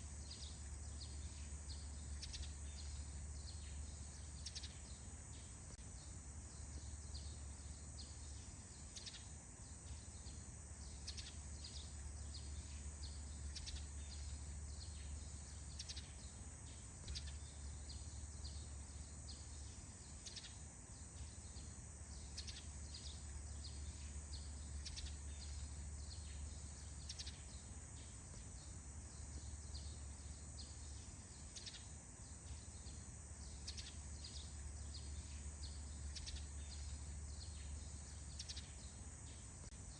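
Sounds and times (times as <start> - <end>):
birds chirping: 0.0 - 39.9
high insect-like hum: 0.0 - 39.9.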